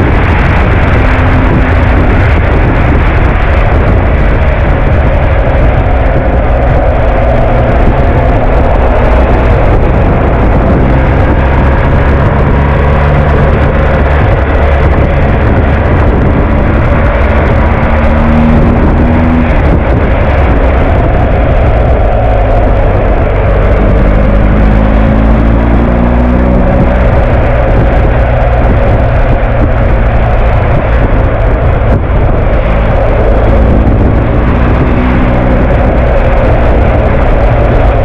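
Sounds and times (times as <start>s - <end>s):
heavy wind noise: 0.0s - 38.0s
motorcycle engine running: 0.0s - 38.0s
road noise: 0.0s - 38.0s.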